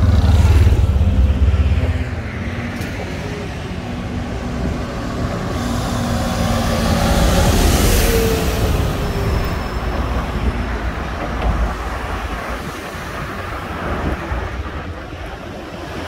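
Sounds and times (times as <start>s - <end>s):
rumble of passing traffic: 0.0s - 16.0s.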